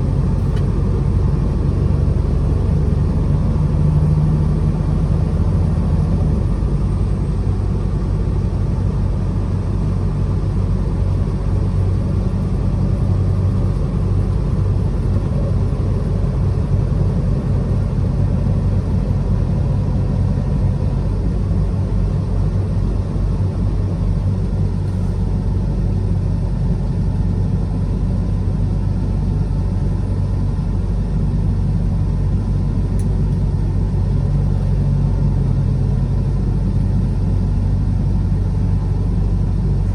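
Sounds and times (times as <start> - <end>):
road rumble: 0.0 - 39.9
truck engine running: 0.0 - 39.9.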